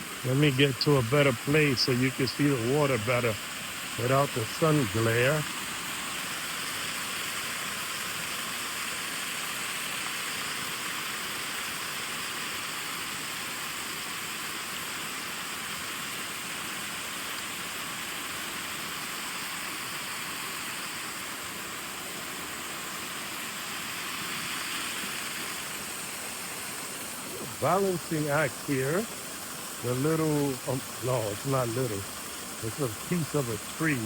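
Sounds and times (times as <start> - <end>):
water pouring over spillway: 0.0 - 34.0.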